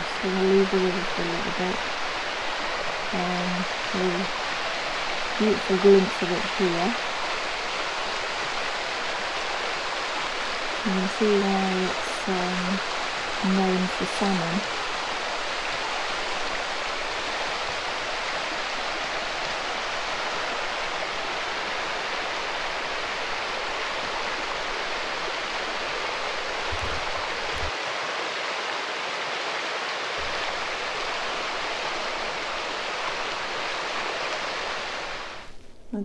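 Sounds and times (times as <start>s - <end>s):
river rushing over stones: 0.0s - 35.6s.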